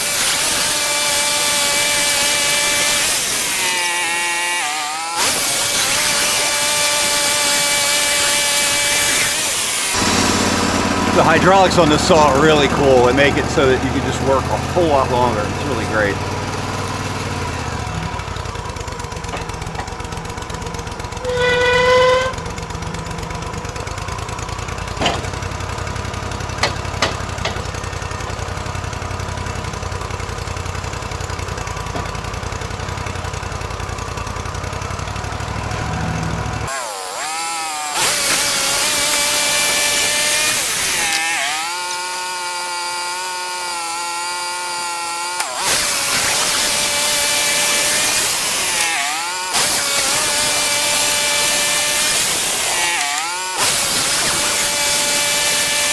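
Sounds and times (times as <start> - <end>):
band blade whining through log: 0.0 - 55.9
sawmill engine running: 0.0 - 55.9.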